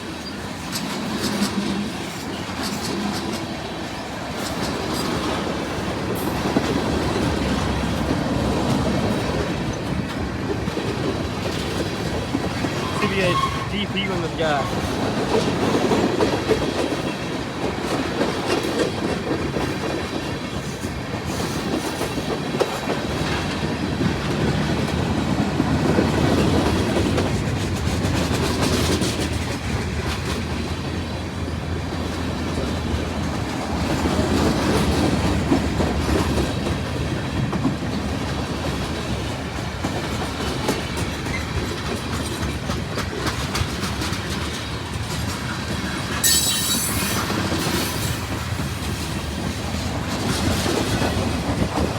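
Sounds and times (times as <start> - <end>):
freight train rumble: 0.0 - 51.9
wheels clicking over rail joints: 0.0 - 51.9.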